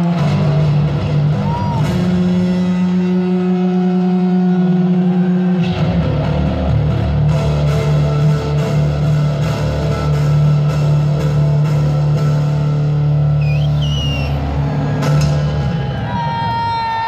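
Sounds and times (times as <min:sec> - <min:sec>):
bass guitar chords: 0:00.0 - 0:16.4.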